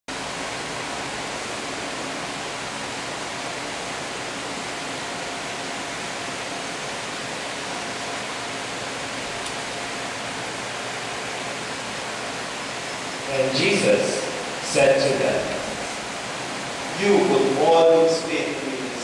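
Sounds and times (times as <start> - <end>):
steady hiss: 0.1 - 19.0.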